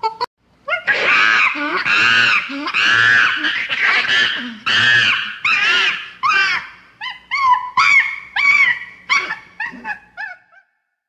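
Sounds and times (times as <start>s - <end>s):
monkey screaming: 0.7s - 10.8s.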